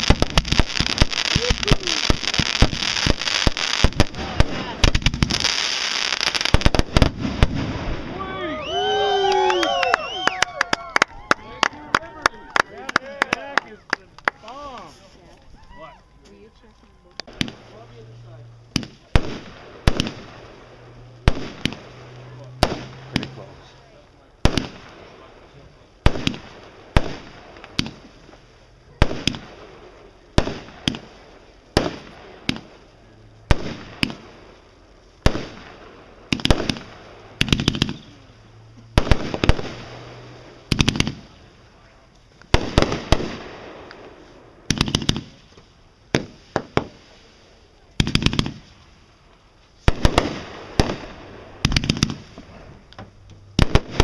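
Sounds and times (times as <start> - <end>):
fireworks bangs: 0.0 - 15.7, 16.3 - 54.0
fireworks crackle: 0.0 - 54.0.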